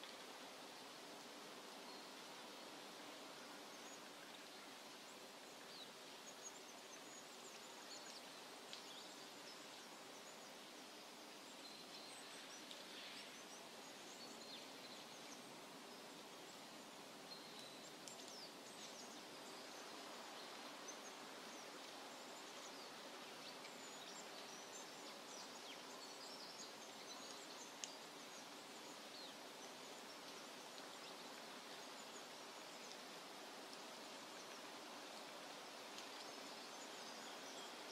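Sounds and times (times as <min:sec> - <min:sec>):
small birds chirping: 0:01.7 - 0:37.9.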